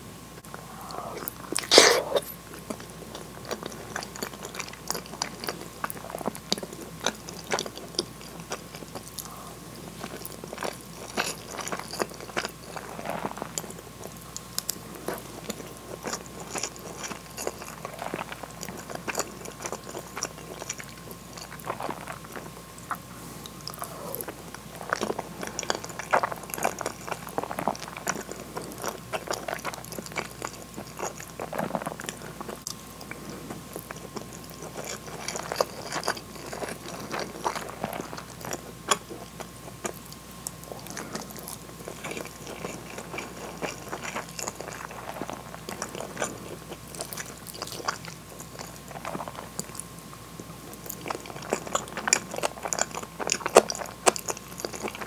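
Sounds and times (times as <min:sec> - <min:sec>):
close chewing with wet mouth smacks: 0:01.2 - 0:49.9, 0:50.6 - 0:55.0.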